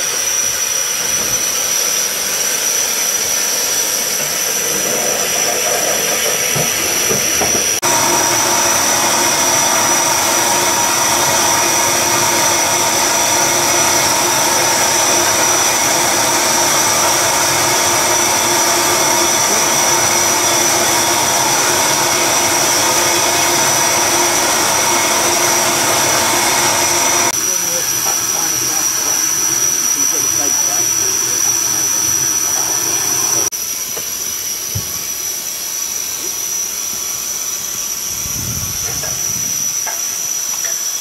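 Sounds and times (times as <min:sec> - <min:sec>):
steam locomotive hissing: 0:00.0 - 0:41.0.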